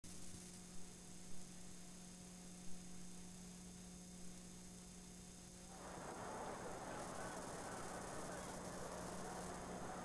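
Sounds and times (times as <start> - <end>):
electrical hum with faint hiss: 0.1 - 10.0.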